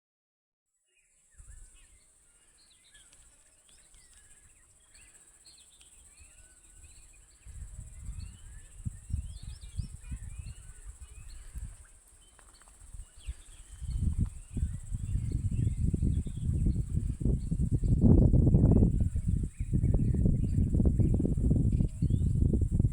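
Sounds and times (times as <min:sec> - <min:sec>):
high-pitched insect drone: 0:01.3 - 0:22.9
birds chirping and calling: 0:01.5 - 0:22.5.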